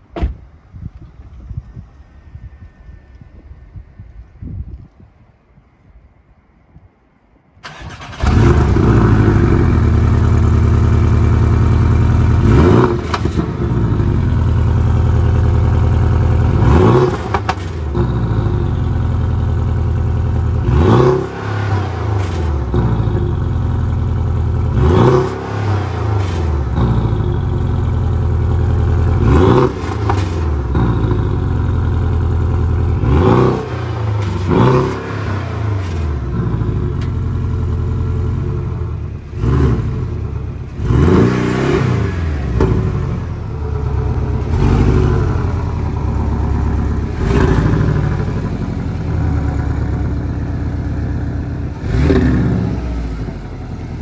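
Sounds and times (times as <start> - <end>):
car engine starting and idling: 7.6 - 54.0
engine revving in throttle blips: 7.6 - 54.0.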